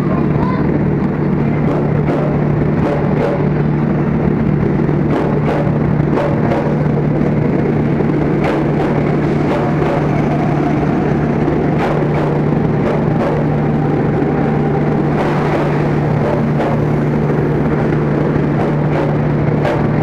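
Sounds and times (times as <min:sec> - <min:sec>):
train low hum: 0:00.0 - 0:20.0
wheel clacks over rail joints: 0:01.0 - 0:20.0.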